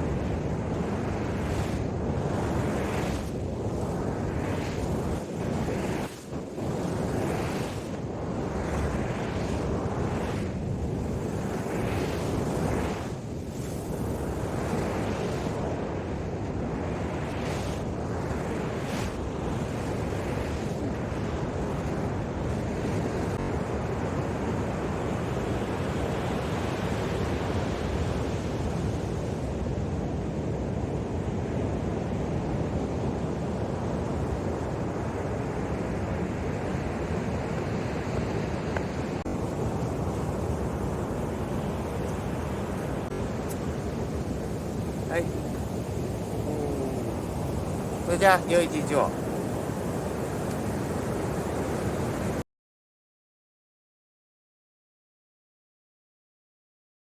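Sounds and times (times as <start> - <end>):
ocean surf on beach: 0.0 - 52.4
wind on microphone: 0.0 - 52.4.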